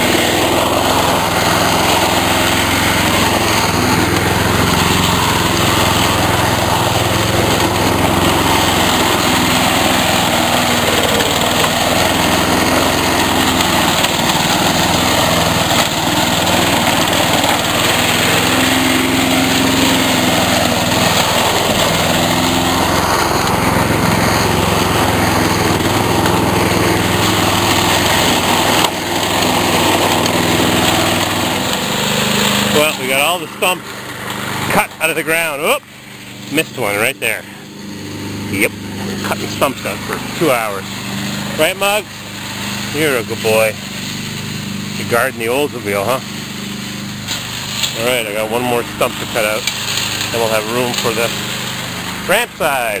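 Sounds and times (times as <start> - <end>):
chainsaw cutting: 0.0 - 53.0.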